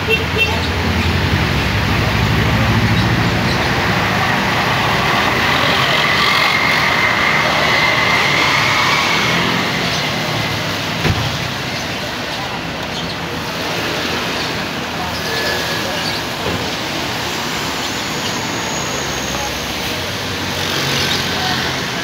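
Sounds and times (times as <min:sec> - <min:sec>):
tyres hissing on wet road: 0:00.7 - 0:22.0.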